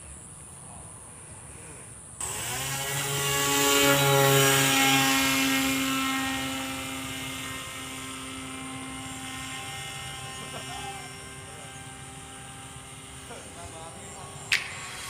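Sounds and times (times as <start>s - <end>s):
electric motor and propeller whine: 2.2s - 15.0s.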